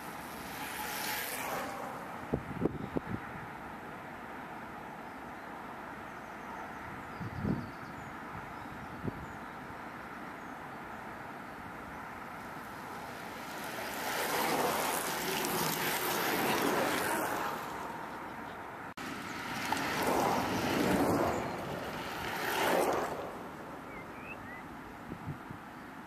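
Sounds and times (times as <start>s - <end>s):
trikes passing by: 0.0s - 6.1s, 10.9s - 26.0s.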